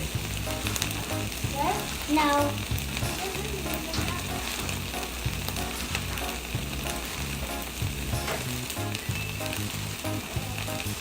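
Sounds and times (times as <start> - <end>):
bacon sizzling in a frying pan: 0.0 - 11.0.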